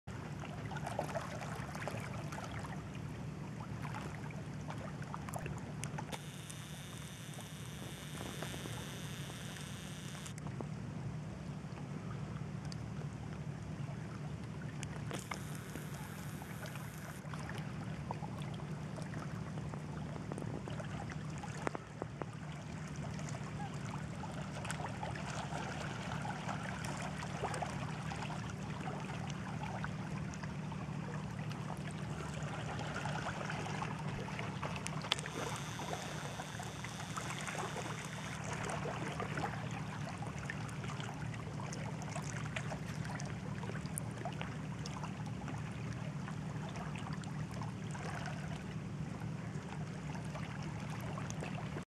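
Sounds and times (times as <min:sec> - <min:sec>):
water lapping around rocks: 0:00.1 - 0:10.6, 0:11.4 - 0:51.8
steady low hum: 0:00.1 - 0:51.7.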